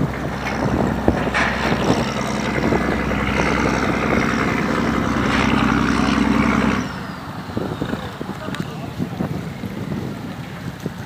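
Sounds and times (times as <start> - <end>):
boat engine running: 0.0 - 11.0
wind rushing over microphone: 0.0 - 11.0.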